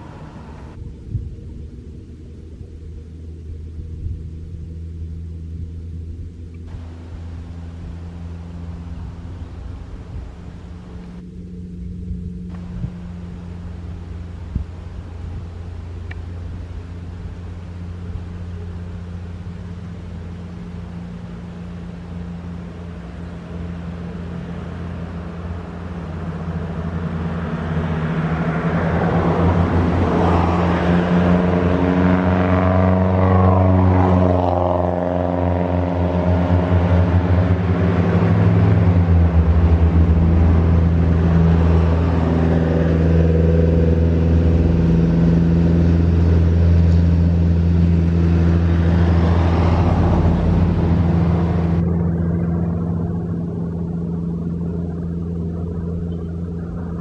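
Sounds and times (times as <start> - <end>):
traffic passing: 0.0 - 0.9, 2.4 - 57.0
vehicle engine humming: 0.0 - 57.0.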